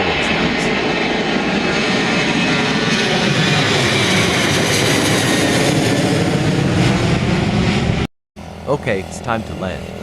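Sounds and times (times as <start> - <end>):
jet engine noise: 0.0 - 10.0.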